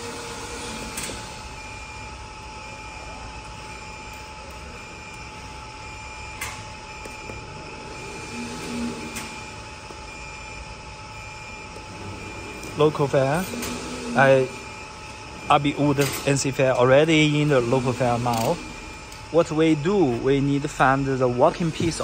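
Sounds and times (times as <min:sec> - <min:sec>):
constant high whine: 0:00.0 - 0:22.0
electrical hum: 0:00.0 - 0:22.0.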